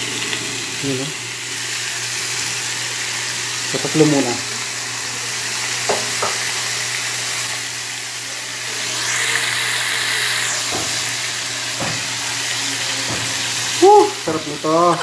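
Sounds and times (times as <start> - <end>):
squid sizzling on a grill pan: 0.0 - 15.0.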